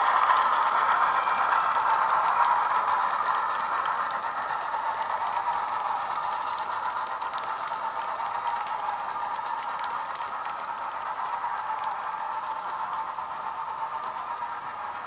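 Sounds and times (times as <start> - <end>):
model train running on track: 0.0 - 15.0
steam engine chuffing and hiss: 0.0 - 15.0.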